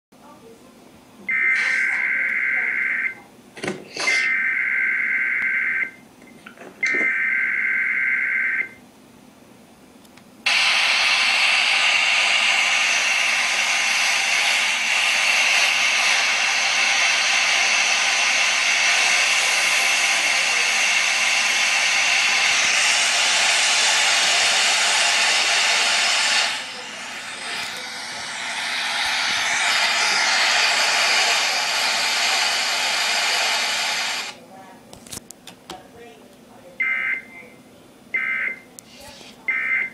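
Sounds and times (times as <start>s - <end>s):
loud steady static hiss: 6.9s - 39.9s.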